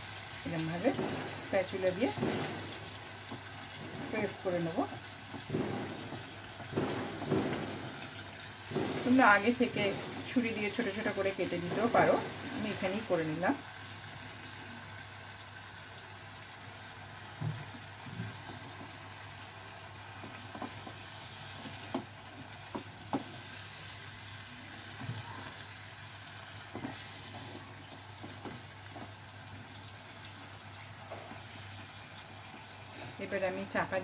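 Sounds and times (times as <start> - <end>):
food sizzling in a wok: 0.0 - 34.0.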